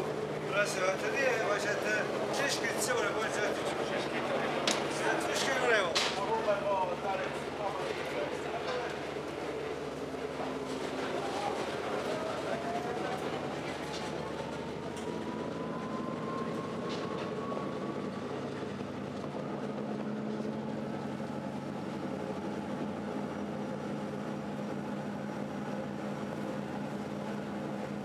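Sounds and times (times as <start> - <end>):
boat engines humming: 0.0 - 28.0.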